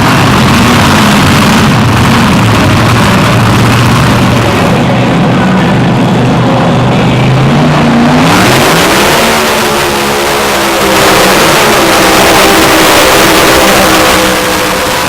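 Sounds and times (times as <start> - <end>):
exhaust and turbo rush: 0.0 - 15.0
tractor engine revving: 0.0 - 15.0.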